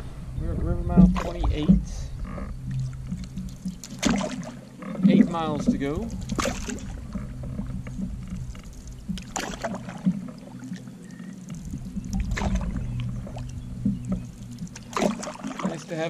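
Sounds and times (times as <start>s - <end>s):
steady low hum: 0.0s - 16.0s
canoe paddle splashing in water: 0.9s - 16.0s.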